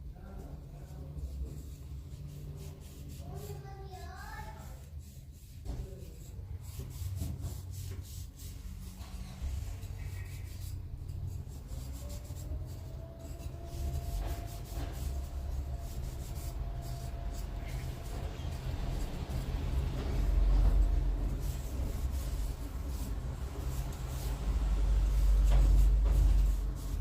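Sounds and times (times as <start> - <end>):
rubbing on wood: 0.4 - 27.0.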